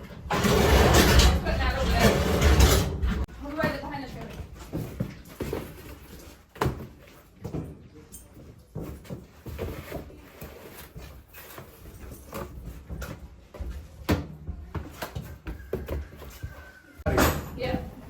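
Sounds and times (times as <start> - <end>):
boxes and bottles clattering: 0.0 - 18.0.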